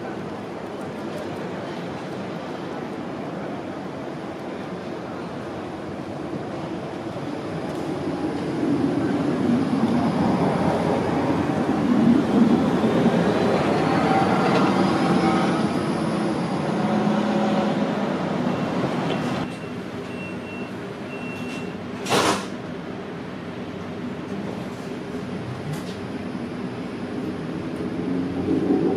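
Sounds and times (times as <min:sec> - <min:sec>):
tram passing with motor whine: 0:00.0 - 0:20.2, 0:21.7 - 0:28.9
hum inside moving tram: 0:00.0 - 0:28.9.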